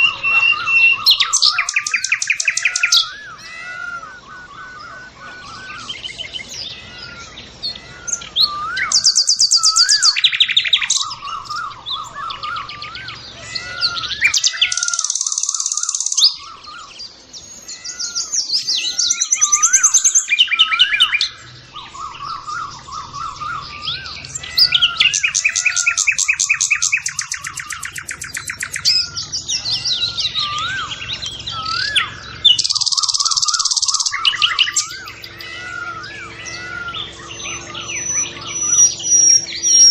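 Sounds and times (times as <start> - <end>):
buzzy high bird trills: 0.0 - 39.9
low bird warbling: 0.0 - 39.9.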